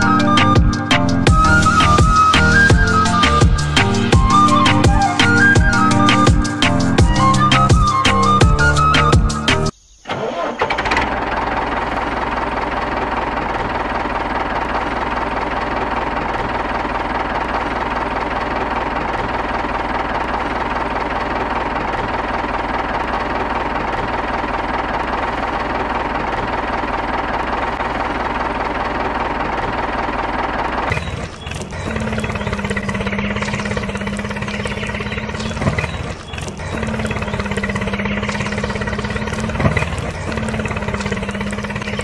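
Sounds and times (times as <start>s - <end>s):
diesel tractor engine running: 0.0s - 42.0s.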